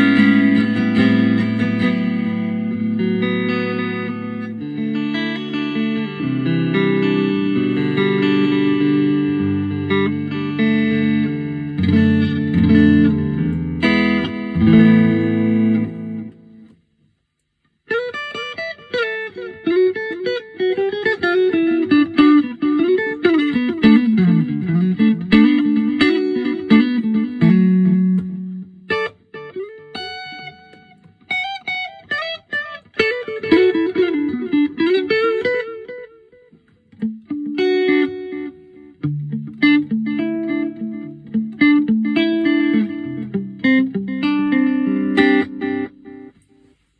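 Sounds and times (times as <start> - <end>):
electric guitar chords and melody: 0.0 - 16.8, 17.8 - 46.9.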